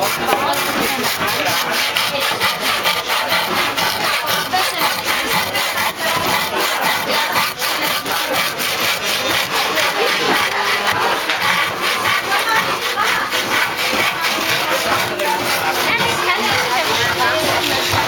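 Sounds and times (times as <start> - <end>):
hand saw cutting wood: 0.0 - 18.0.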